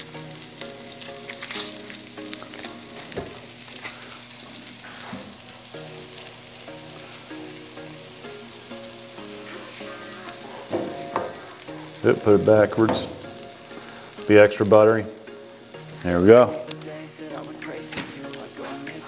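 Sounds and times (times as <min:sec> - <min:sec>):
butter melting with sizzle: 0:00.0 - 0:19.0
faint background music: 0:00.0 - 0:19.0
onions sizzling on griddle: 0:00.0 - 0:19.0.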